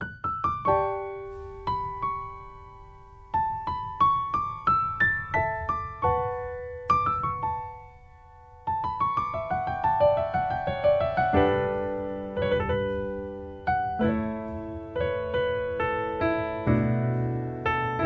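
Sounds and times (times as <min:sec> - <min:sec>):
soft solo piano music: 0:00.0 - 0:18.0.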